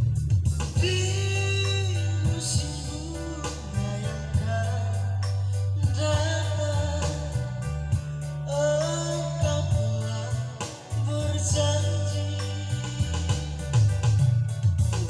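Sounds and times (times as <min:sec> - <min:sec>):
keyboard backing accompaniment: 0:00.0 - 0:15.0
man singing pop ballad: 0:00.0 - 0:15.0.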